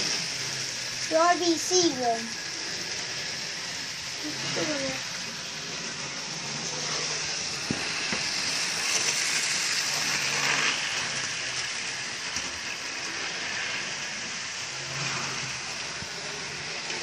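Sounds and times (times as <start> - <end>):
model train whirring rattle: 0.0 - 17.0.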